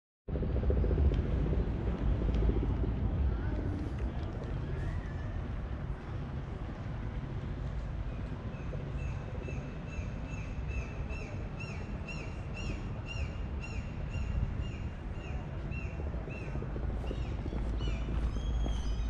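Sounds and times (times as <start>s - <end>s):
low rumble of city noise: 0.3s - 19.0s.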